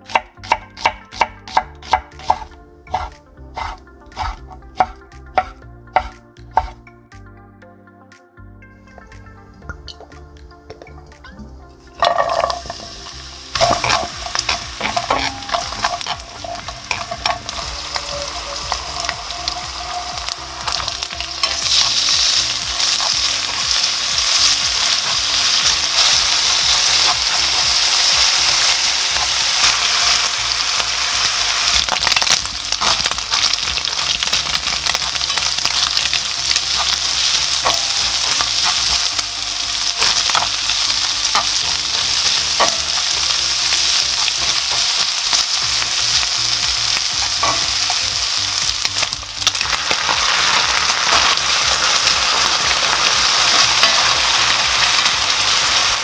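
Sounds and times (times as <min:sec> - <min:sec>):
garlic and bacon sizzling in oil: 0:00.0 - 0:06.8, 0:12.0 - 0:56.0.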